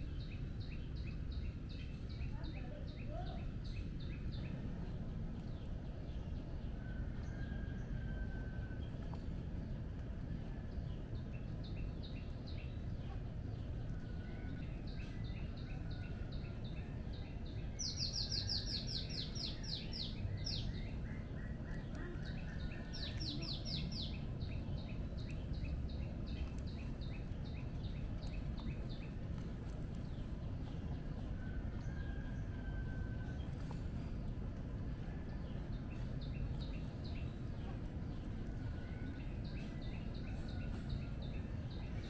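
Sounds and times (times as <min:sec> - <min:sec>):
birds chirping: 0:00.0 - 0:42.0
low background rumble: 0:00.0 - 0:42.0.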